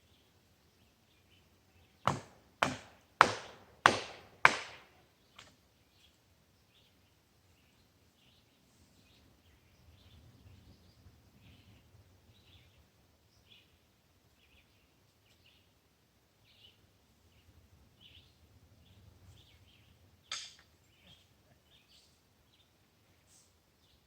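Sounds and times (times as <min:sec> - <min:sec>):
small birds chirping: 0:00.0 - 0:02.2, 0:05.1 - 0:24.0.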